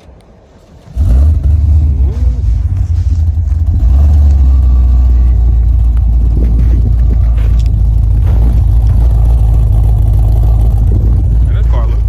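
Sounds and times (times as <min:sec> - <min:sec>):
car engine idling: 0:00.8 - 0:12.0.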